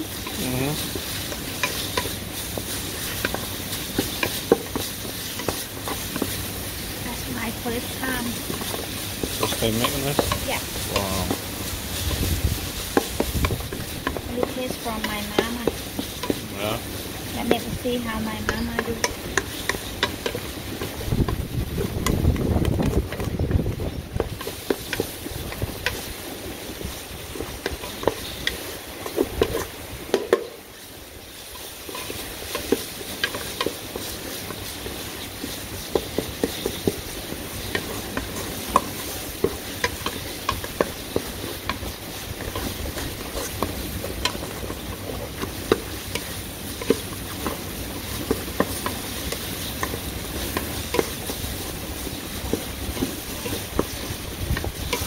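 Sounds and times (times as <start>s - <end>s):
spice paste sizzling: 0.0s - 55.0s
wooden spatula scraping metal pot: 0.0s - 55.0s.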